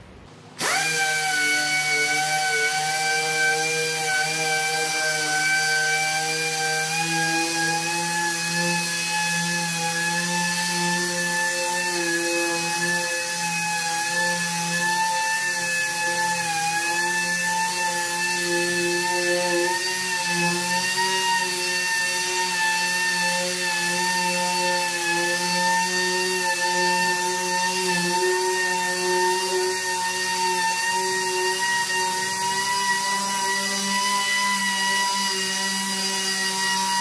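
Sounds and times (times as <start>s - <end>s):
pneumatic sander high whine: 0.6s - 37.0s.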